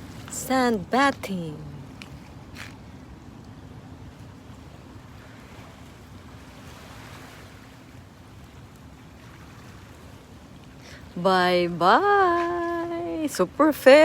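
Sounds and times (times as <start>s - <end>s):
waves washing: 0.0s - 14.0s.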